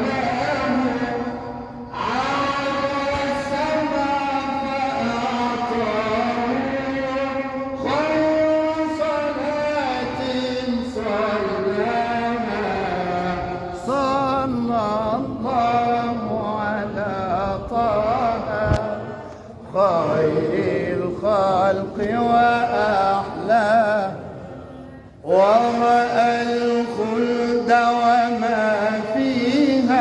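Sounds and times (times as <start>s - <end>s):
man chanting: 0.0s - 30.0s.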